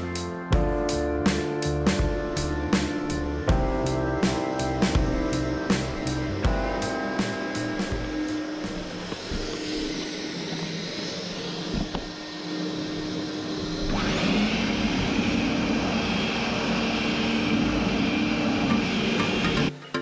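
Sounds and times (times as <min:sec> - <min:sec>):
motor whine: 0:01.9 - 0:19.6.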